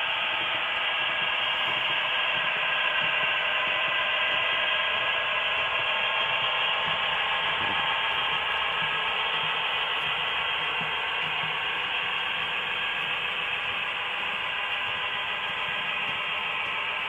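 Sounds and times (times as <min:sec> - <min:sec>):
model train motors whirring: 0:00.0 - 0:17.0
train wheel noise: 0:00.0 - 0:17.0.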